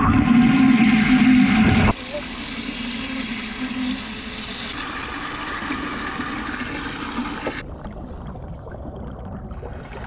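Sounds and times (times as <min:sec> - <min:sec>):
hose water splashing into aquarium: 0:01.9 - 0:10.0.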